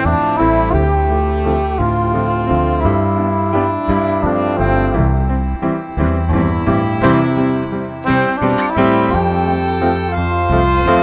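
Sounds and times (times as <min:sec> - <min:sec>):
accordion tune over bass line: 0:00.0 - 0:11.0.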